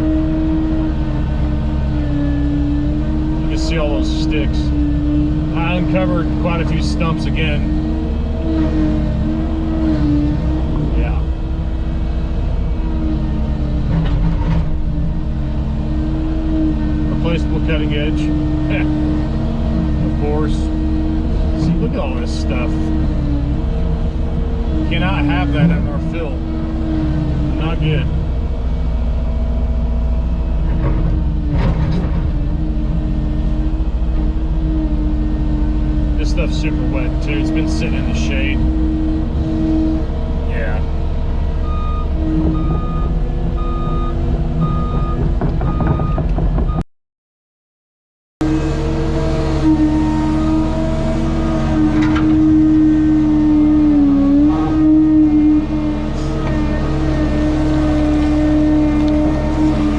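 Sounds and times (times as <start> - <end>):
excavator diesel engine running: 0.0 - 46.8, 48.4 - 59.9.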